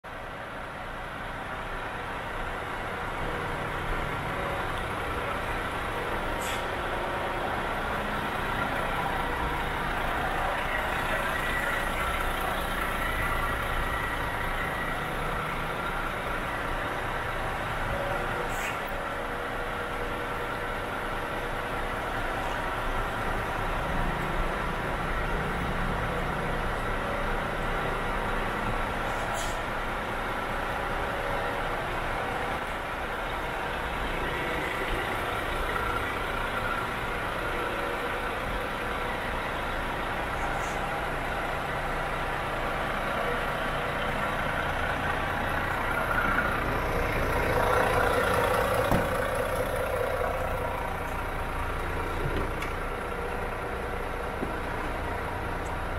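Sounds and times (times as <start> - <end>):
truck diesel engine idling: 0.0 - 55.9.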